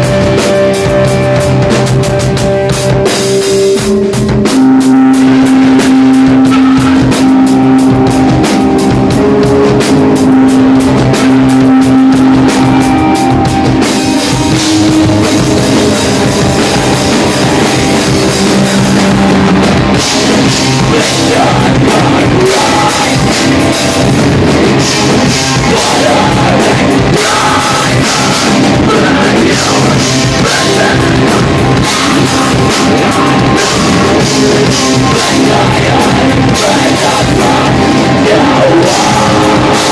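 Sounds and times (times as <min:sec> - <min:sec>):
drum beat: 0:00.0 - 0:39.9
electric guitars: 0:00.0 - 0:39.9
live rock band playing: 0:00.0 - 0:39.9.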